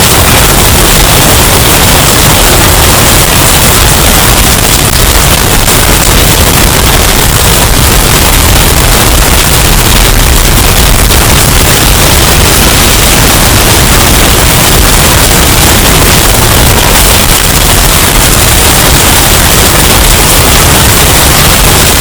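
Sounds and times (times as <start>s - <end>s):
distorted hurricane wind roar: 0.0s - 22.0s.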